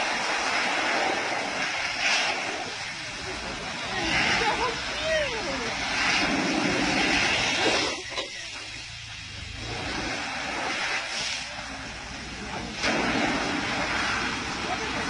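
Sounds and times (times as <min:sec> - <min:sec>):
water jets spraying: 0:00.0 - 0:15.0.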